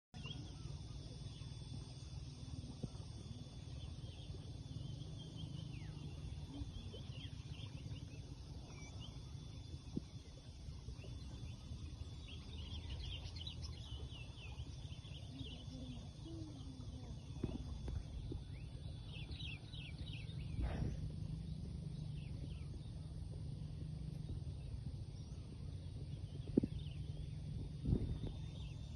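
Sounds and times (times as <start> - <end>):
birds chirping: 0.2 - 28.9
low rumble: 0.2 - 28.9.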